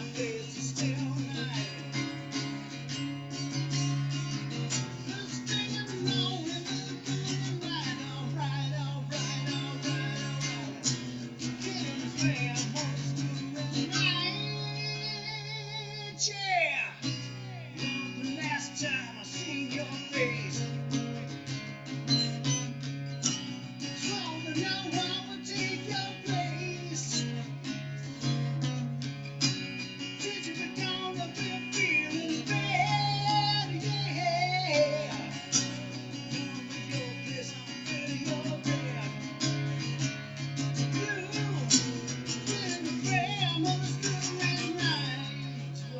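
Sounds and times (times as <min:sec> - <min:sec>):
acoustic guitar plucked notes: 0:00.0 - 0:45.9.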